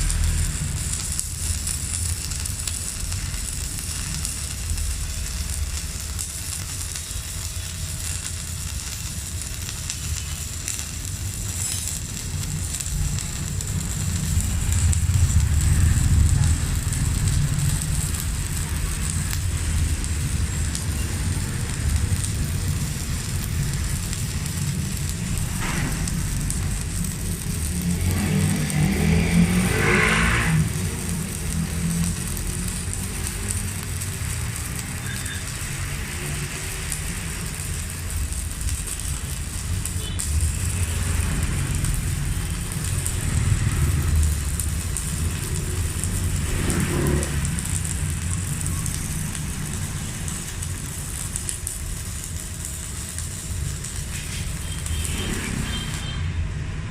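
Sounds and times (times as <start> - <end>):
welding arc crackling and sizzling: 0.0 - 56.9.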